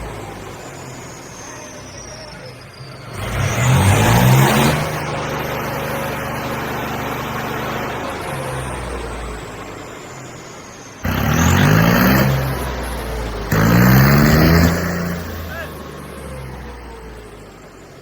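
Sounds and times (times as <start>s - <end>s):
diesel tractor engine revving: 0.0s - 18.0s.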